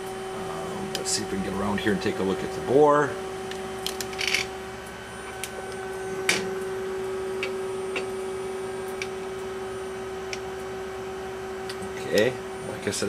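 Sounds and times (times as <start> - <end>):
lathe humming: 0.0 - 13.0.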